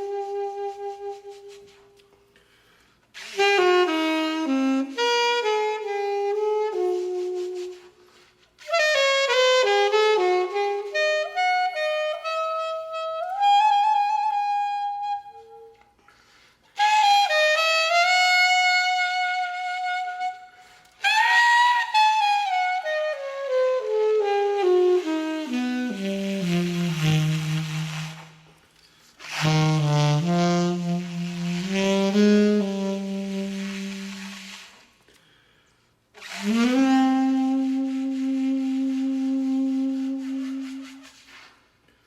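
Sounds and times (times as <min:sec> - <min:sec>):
saxophone playing: 0:00.0 - 0:41.5.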